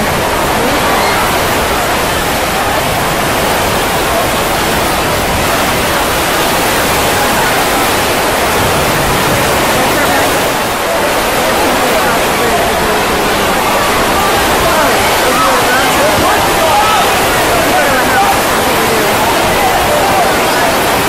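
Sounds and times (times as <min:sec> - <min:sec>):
rain and wind on tent: 0:00.0 - 0:21.0.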